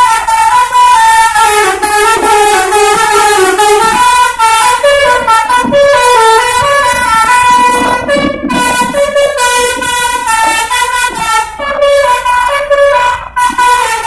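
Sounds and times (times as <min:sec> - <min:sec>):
bus horn playing a tune: 0:00.0 - 0:14.0.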